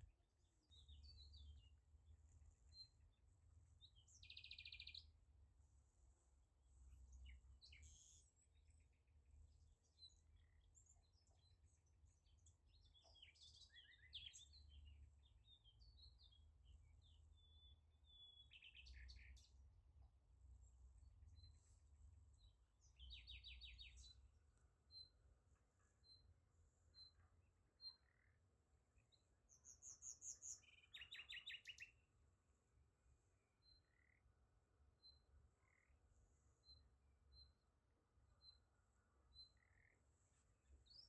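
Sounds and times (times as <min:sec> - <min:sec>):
birds chirping and trilling: 0:00.4 - 0:05.2, 0:06.1 - 0:19.6, 0:20.6 - 0:34.4, 0:38.3 - 0:41.0.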